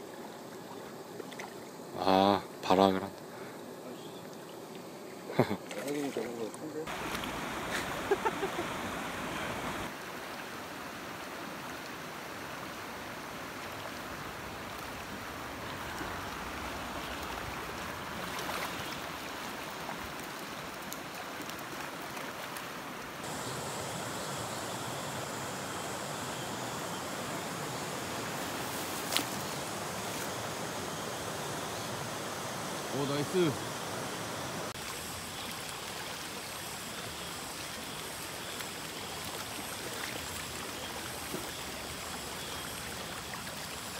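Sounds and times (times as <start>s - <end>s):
stream rushing over rocks: 6.9s - 43.9s.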